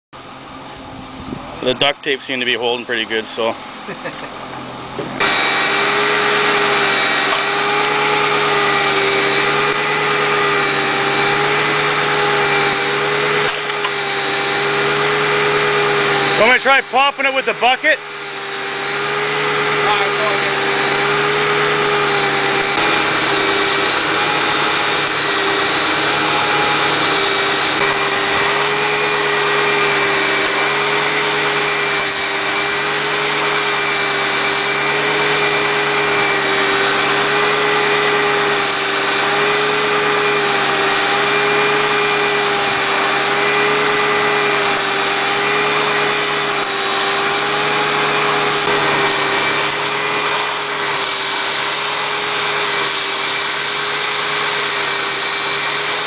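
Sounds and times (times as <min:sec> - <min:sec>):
excavator engine and hydraulics: 0:00.2 - 0:56.0.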